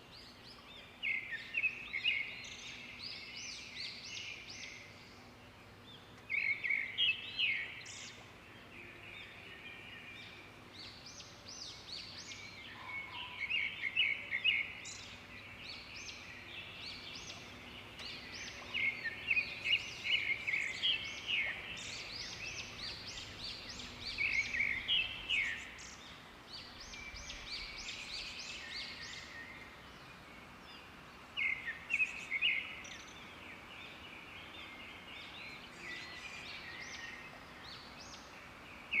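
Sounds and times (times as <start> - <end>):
faint background hiss: 0.0 - 39.0
small birds chirping: 0.0 - 39.0.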